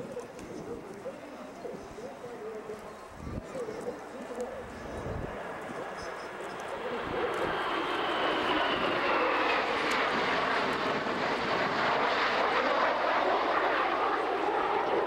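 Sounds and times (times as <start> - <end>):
jet engines roaring past: 0.0 - 15.0.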